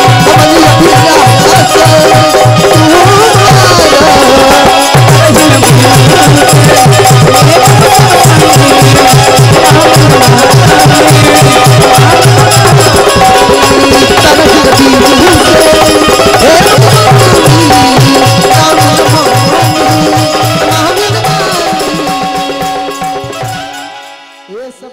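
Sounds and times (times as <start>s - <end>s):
person singing: 0.0s - 23.6s, 24.5s - 24.9s
dholak drum beating: 0.0s - 24.9s
harmonium tones: 0.0s - 24.9s.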